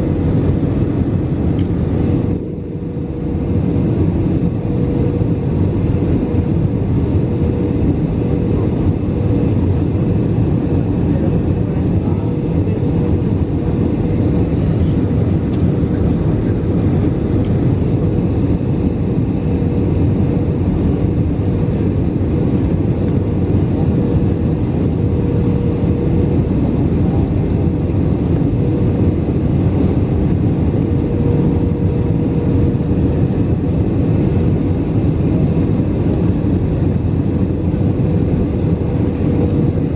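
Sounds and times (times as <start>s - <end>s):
airliner engine and airflow drone: 0.0s - 39.9s.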